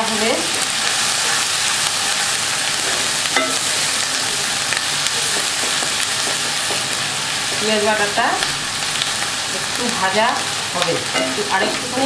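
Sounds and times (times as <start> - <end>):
onion paste sizzling in oil: 0.0 - 12.0.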